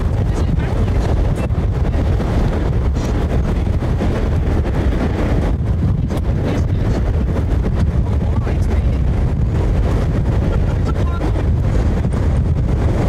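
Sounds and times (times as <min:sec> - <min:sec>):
vehicle road noise rumble: 0:00.0 - 0:13.0
wind buffeting microphone: 0:00.0 - 0:13.0.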